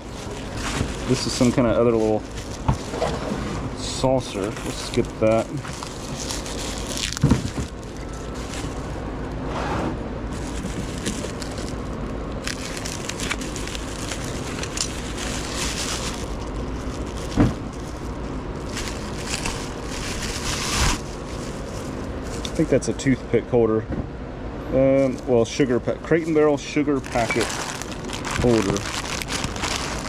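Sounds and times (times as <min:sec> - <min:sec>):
bubble wrap crinkling: 0:00.0 - 0:09.4, 0:10.3 - 0:22.8, 0:26.0 - 0:30.0
steady background noise: 0:00.0 - 0:30.0.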